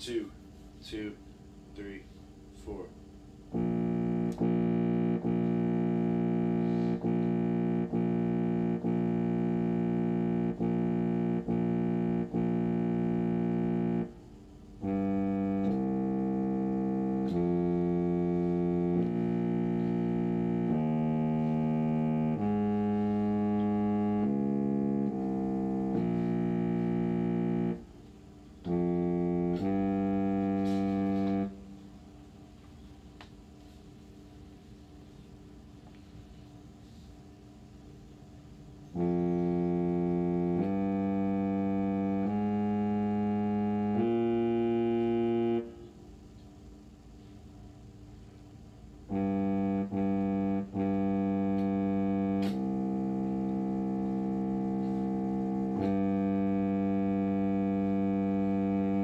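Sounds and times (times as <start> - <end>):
low brass instruments playing: 0.0 - 32.6, 38.9 - 46.4, 49.0 - 59.0.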